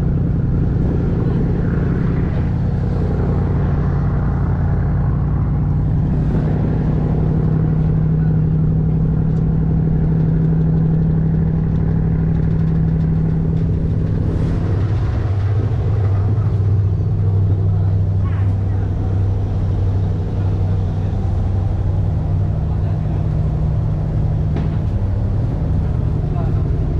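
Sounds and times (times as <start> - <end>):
boat engine droning: 0.0 - 26.9.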